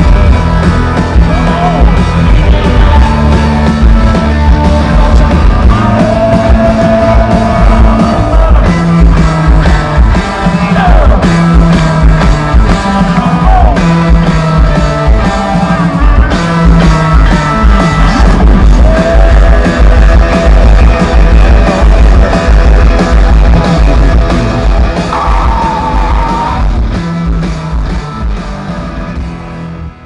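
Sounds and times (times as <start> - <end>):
drum kit: 0.0 - 30.0
electric guitars: 0.0 - 30.0
sliding guitar notes: 0.0 - 30.0.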